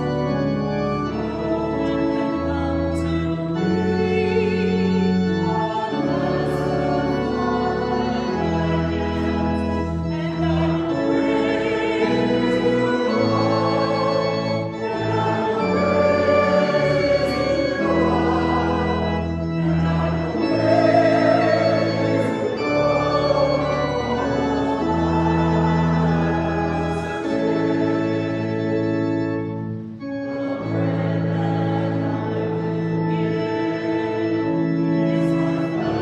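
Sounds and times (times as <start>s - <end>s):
congregation singing: 0.0s - 36.0s
organ playing sustained chords: 0.0s - 36.0s.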